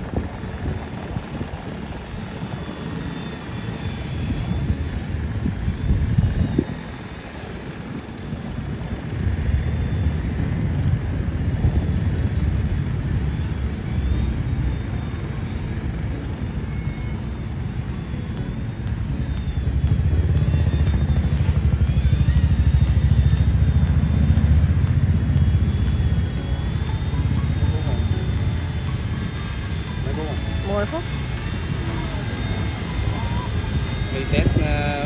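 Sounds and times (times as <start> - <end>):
toy helicopter buzzing whine: 0.0 - 35.0
wind buffeting microphone: 0.0 - 35.0.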